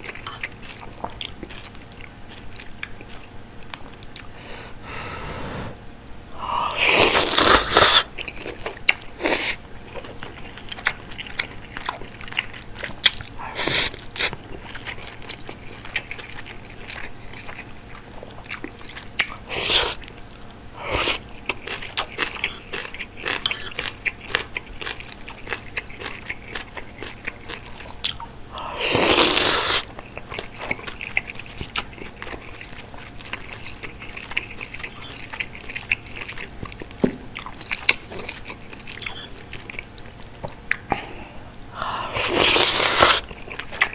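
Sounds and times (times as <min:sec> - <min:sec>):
close chewing and biting: 0:00.0 - 0:04.4, 0:06.9 - 0:41.2, 0:42.1 - 0:43.9.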